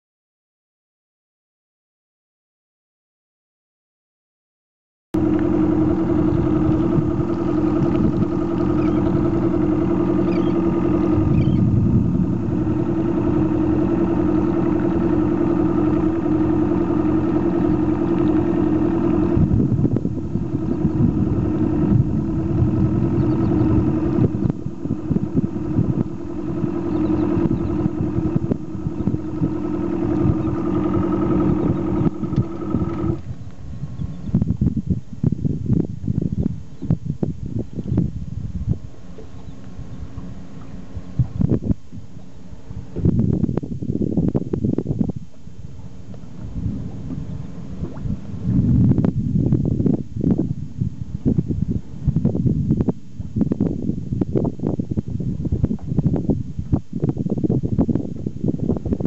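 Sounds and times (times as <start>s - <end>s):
boat motor running: 5.2s - 59.0s.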